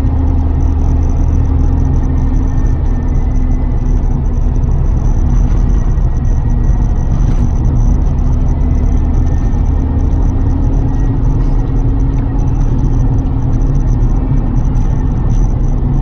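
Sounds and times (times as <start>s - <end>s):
car engine drone: 0.0s - 16.0s
low road rumble: 0.0s - 16.0s.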